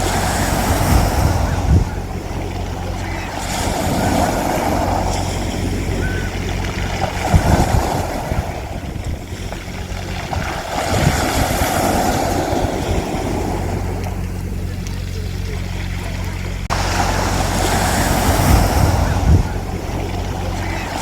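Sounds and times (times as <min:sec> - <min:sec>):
sea waves washing onto beach: 0:00.0 - 0:21.0
steady low hum: 0:00.0 - 0:21.0.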